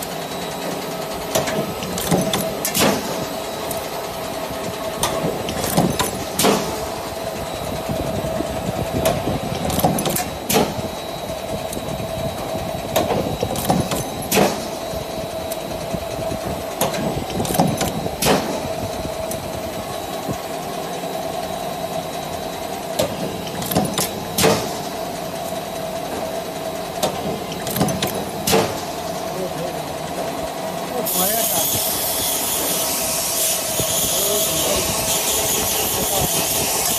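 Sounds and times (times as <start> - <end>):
motor hum: 0.0 - 36.9.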